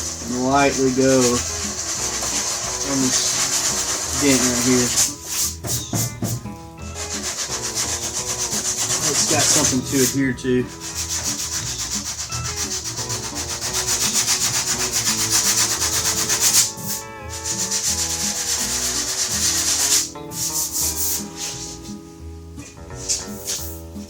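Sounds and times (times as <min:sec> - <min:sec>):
sandpaper scratching metal panel: 0:00.0 - 0:22.0, 0:23.0 - 0:24.0.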